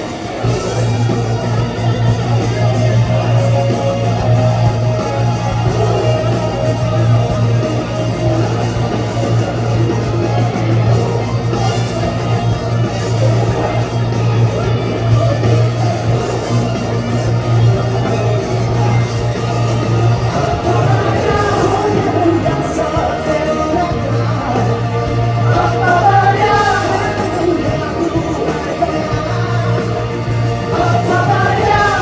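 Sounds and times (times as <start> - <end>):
electric guitar: 0.0 - 32.0
heavy bass: 0.0 - 32.0
rock band playing: 0.0 - 32.0.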